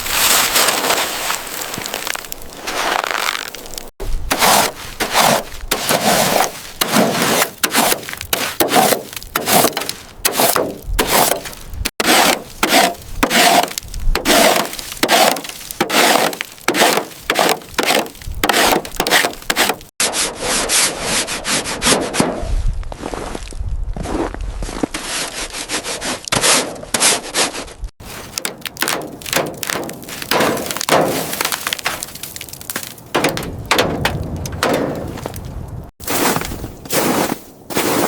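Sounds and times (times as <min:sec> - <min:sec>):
hand tool scraping: 0:00.0 - 0:22.4, 0:24.8 - 0:33.4.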